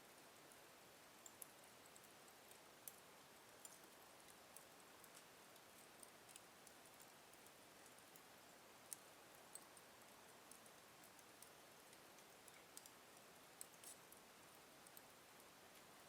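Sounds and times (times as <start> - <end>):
soft fire hiss: 0.0 - 16.0
wood fire crackling: 0.4 - 16.0.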